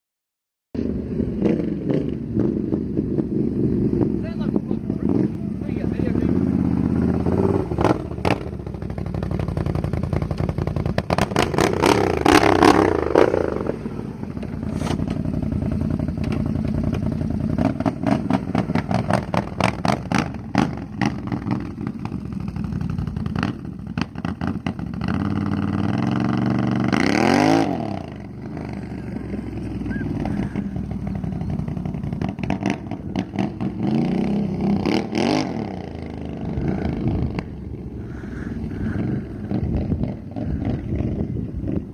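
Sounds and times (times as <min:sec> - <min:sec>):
engine idling and revving: 0:00.8 - 0:41.9.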